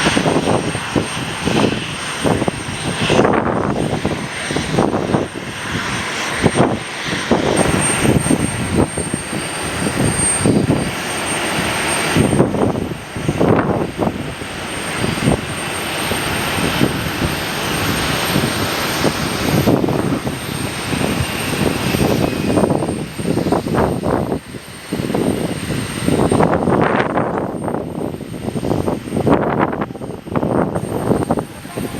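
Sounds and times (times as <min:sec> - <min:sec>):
aircraft engines running: 0:00.0 - 0:31.9
wind buffeting microphone: 0:00.0 - 0:31.9.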